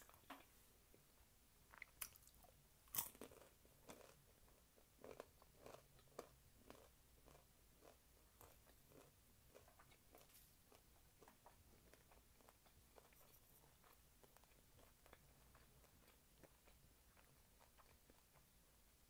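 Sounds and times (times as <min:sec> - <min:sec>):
crunchy chewing: 0:01.7 - 0:18.4.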